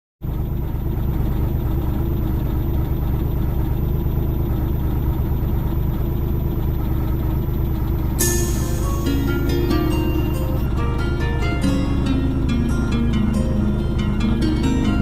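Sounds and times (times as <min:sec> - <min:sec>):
steady engine rumble: 0:00.2 - 0:15.0.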